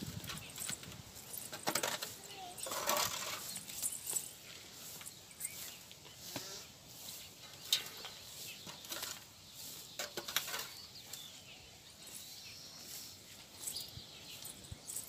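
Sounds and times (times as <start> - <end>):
dry straw and twigs crackling: 0.0 - 15.0.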